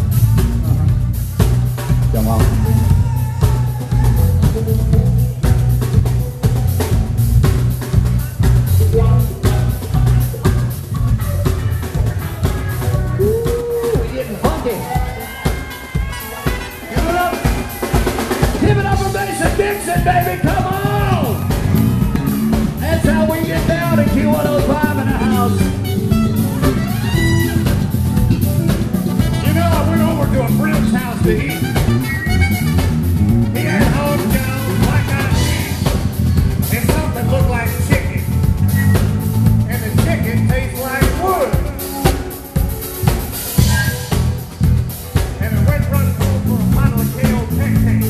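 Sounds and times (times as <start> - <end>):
live funk band playing: 0.0 - 48.0.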